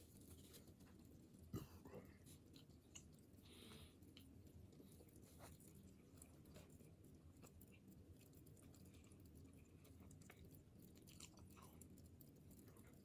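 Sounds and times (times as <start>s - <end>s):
room hum: 0.0s - 13.0s
wet chewing clicks: 2.1s - 13.0s.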